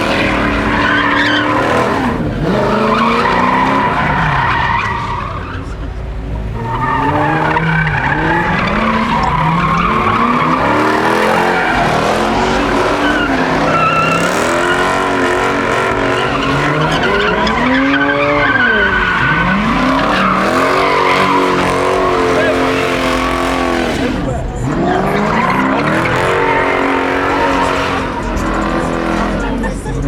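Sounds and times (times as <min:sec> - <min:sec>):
car engine revving: 0:00.0 - 0:30.0
tyres squealing: 0:00.0 - 0:30.0.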